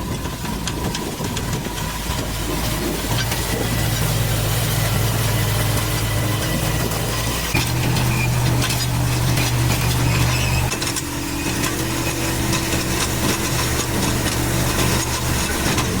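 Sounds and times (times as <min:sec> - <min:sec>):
loader engine running: 0:00.0 - 0:16.0.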